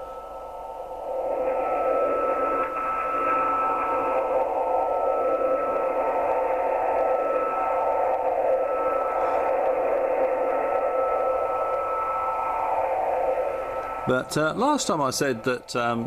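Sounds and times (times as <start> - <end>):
shortwave radio rushing noise: 0.0 - 16.0
thin steady whistle: 0.0 - 16.0.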